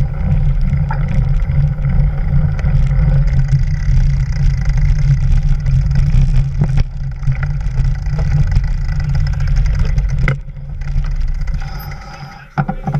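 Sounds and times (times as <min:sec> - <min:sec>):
mountain bike on dirt trail: 0:00.0 - 0:12.9
rattles and clicks: 0:00.0 - 0:12.9.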